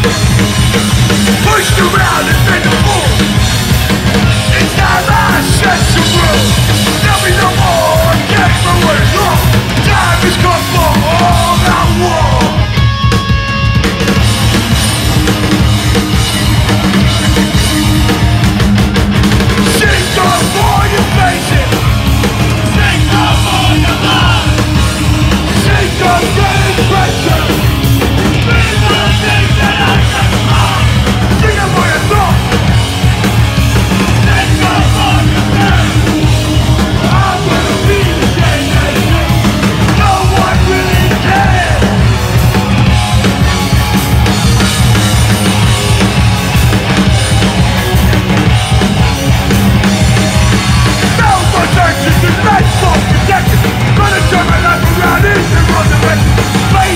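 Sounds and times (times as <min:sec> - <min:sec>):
punk band playing live: 0:00.0 - 0:56.9.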